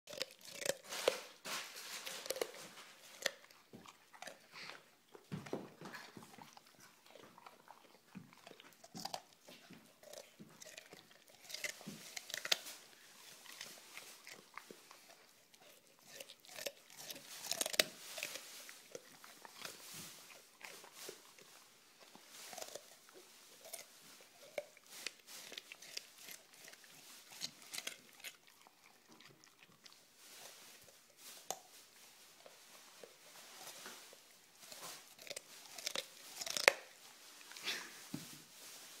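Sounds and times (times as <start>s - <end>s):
dog crunching a carrot: 0.1s - 38.2s.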